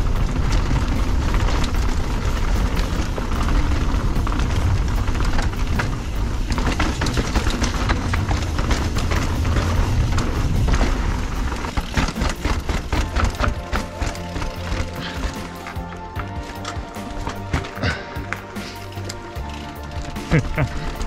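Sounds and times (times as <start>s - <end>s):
bike frame rattling and clicking: 0.0s - 21.0s
bike tyres rumbling on stones: 0.0s - 21.0s.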